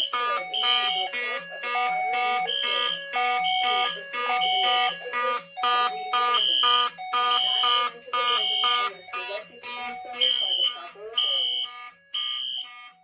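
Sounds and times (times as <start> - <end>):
fire alarm horns sounding: 0.0 - 13.0
high steady alarm tone: 0.0 - 13.0.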